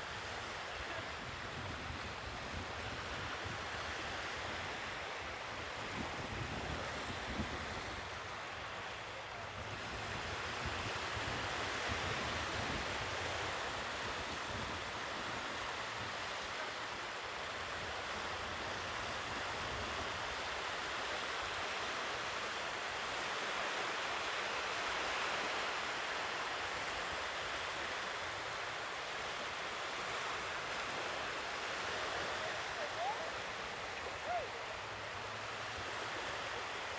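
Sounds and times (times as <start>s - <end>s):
sea waves washing on shore: 0.0s - 36.9s.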